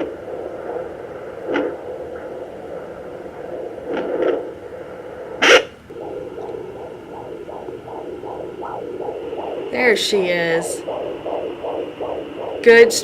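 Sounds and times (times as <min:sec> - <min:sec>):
doppler speaker static hiss: 0:00.0 - 0:13.0
fetal heartbeat pulse: 0:00.0 - 0:13.0.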